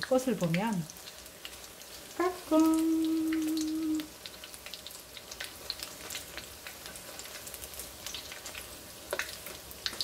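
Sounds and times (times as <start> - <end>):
food deep-frying in hot oil: 0.0 - 10.0.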